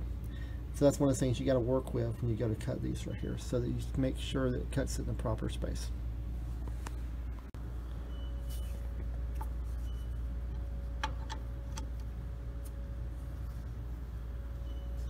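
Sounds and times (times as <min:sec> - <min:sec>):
machine shop hum: 0:00.0 - 0:15.0.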